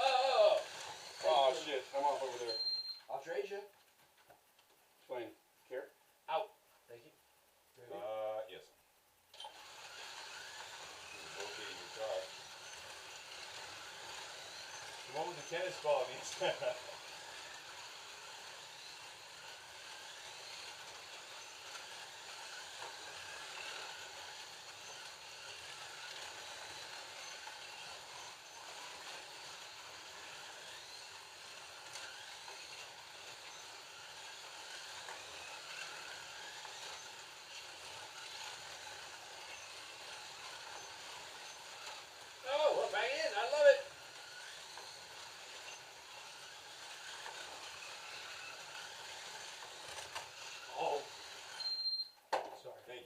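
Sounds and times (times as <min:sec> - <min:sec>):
slot cars whirring: 0:00.0 - 0:03.5, 0:09.3 - 0:52.0.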